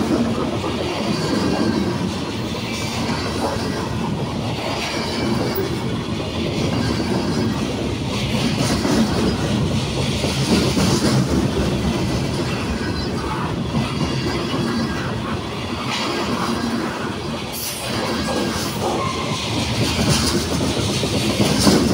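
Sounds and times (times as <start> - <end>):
freight train rolling past: 0.0 - 21.9.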